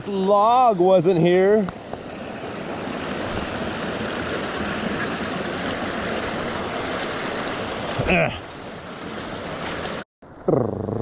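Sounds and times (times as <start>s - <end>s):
creek rushing: 0.0s - 10.5s.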